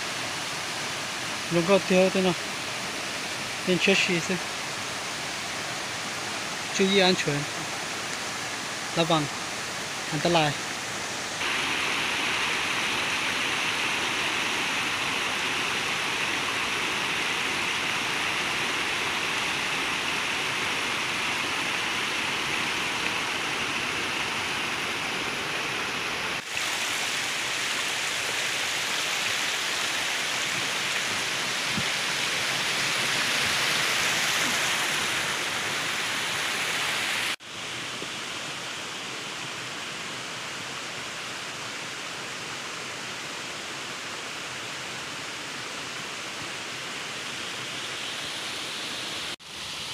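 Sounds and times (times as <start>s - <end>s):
stream running over rocks: 0.0s - 49.9s.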